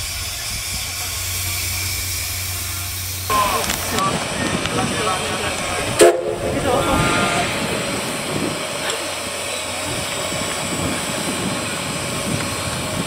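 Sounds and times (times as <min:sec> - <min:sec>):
steam hissing from locomotive: 0:00.0 - 0:13.0.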